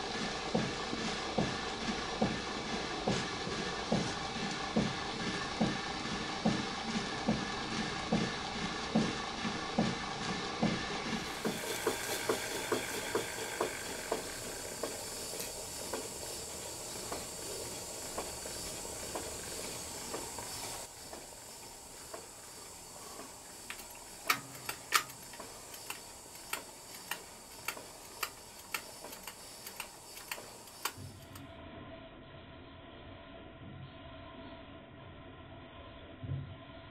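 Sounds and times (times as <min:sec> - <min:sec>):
steam engine exhaust beats: 0:00.0 - 0:31.5
steam hiss: 0:00.0 - 0:31.5.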